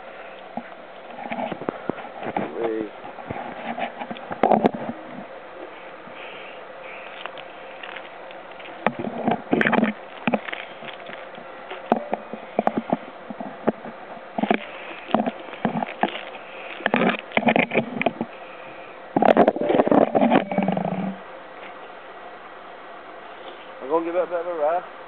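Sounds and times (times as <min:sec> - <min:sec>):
rustling crackles: 0:00.0 - 0:21.8.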